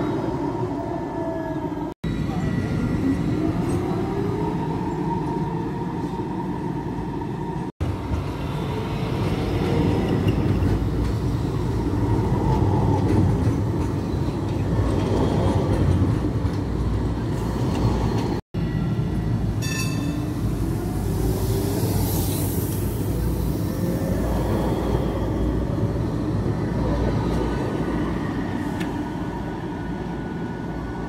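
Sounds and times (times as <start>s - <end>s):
tram rumbling on rails: 0.0s - 31.0s.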